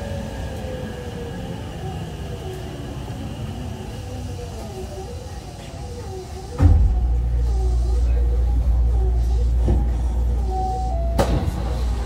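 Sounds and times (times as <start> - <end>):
train inverter whine: 0.0 - 12.0
train running rumble: 0.0 - 12.0.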